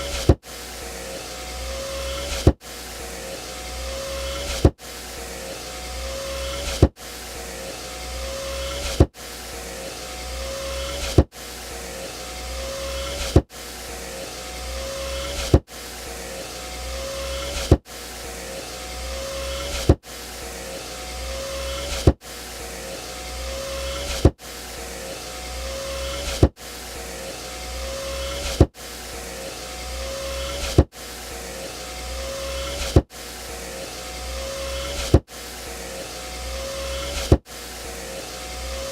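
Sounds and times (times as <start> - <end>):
power window motor whine: 0.0 - 38.9.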